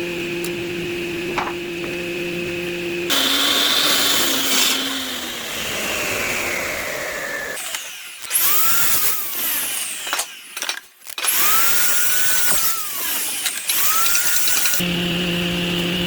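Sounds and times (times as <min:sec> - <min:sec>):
electric power tool whining: 0:00.0 - 0:16.0.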